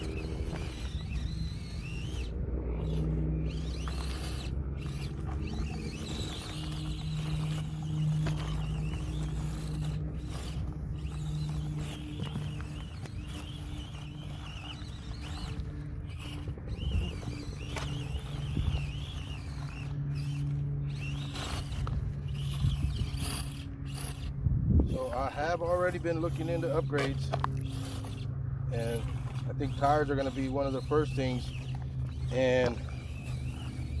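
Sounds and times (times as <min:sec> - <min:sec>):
small electric motor whining: 0:00.0 - 0:34.0.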